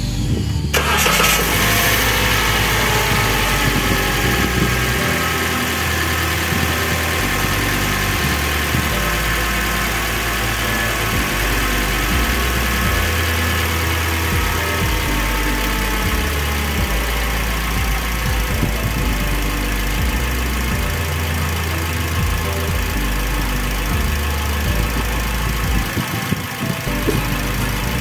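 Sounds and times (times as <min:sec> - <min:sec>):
car engine starting and idling: 0:00.0 - 0:28.0.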